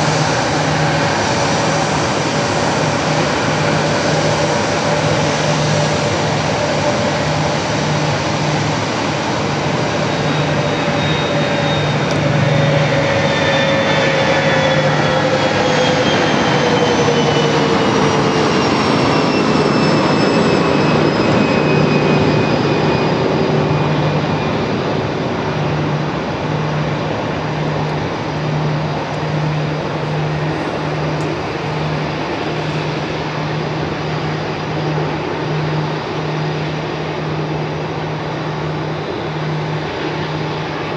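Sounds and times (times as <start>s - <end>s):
engine whine falling in pitch: 0.0s - 40.9s
jet aircraft passing: 0.0s - 40.9s.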